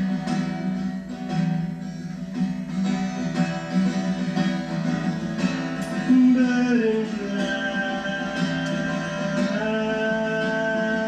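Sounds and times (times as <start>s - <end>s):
guitar playing: 0.0s - 11.0s.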